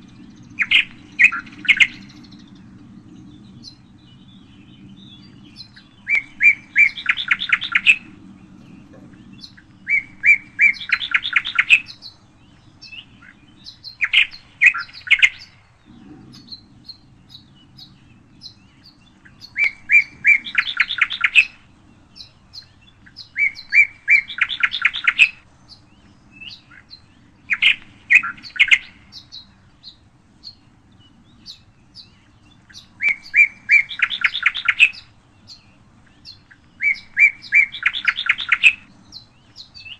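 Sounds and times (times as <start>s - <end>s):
faint low hum: 0.0s - 39.9s
songbird singing trilled phrase: 0.0s - 39.9s.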